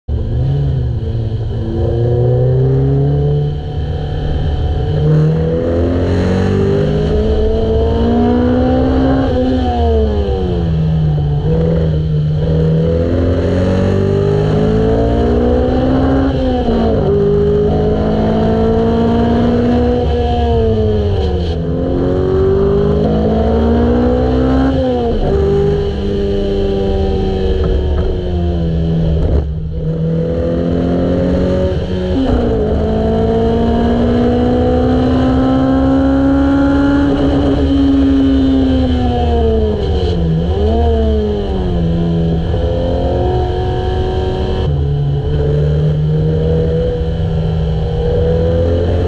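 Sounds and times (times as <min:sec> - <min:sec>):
car engine revving at track pace: 0:00.1 - 0:49.0.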